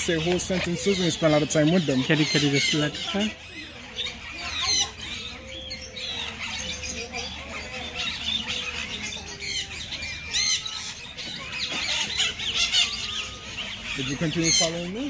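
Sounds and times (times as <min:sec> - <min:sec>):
parrots squawking and chirping: 0:00.0 - 0:15.0.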